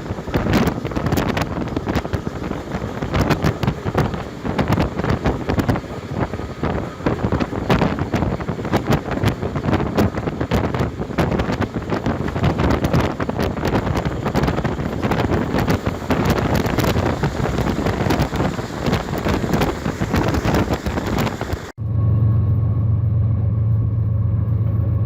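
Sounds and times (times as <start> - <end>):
wind buffeting microphone: 0.0 - 21.7
train rumbling along track: 0.0 - 25.0.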